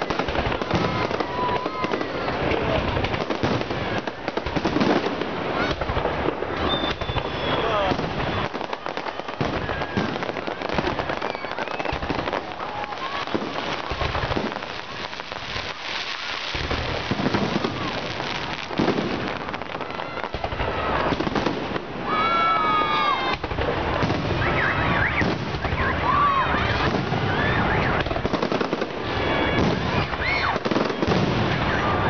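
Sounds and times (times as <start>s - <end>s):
fireworks booming: 0.0s - 32.0s
fireworks crackling: 0.0s - 32.0s.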